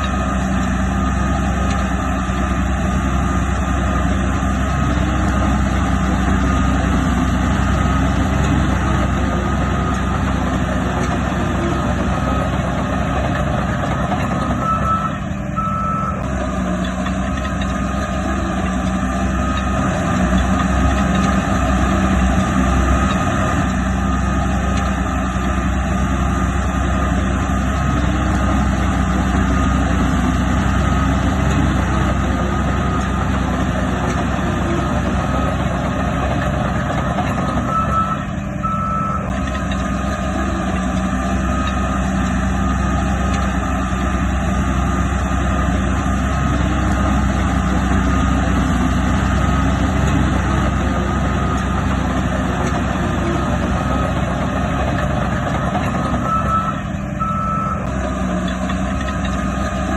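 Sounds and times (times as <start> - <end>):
heavy diesel machinery running: 0.0 - 59.9
reversing alarm beeping: 0.1 - 58.1.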